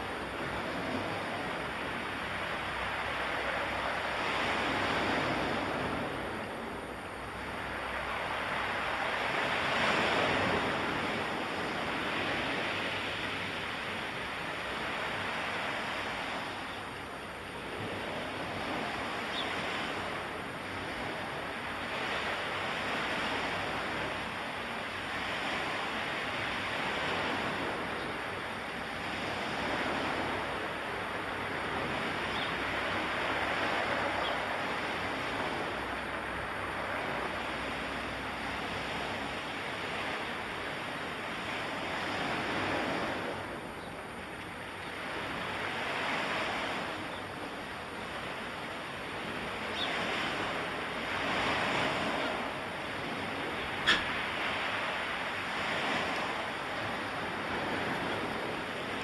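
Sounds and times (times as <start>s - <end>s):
surf-like rushing noise: 0.0s - 59.0s.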